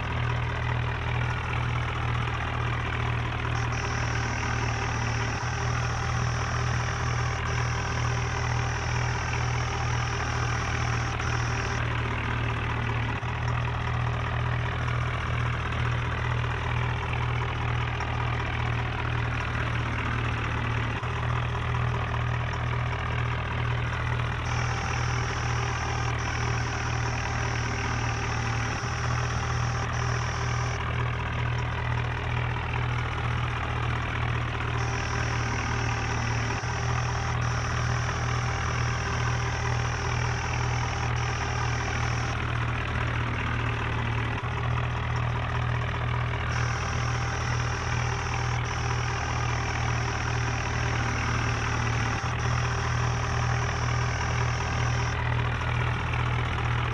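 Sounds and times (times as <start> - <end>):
engine idling drone: 0.0 - 56.9.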